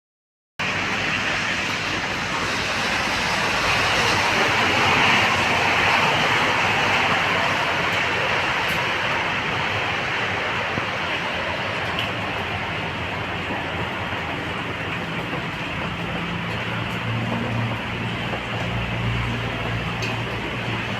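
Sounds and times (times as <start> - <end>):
steady rain falling: 0.6 - 20.9.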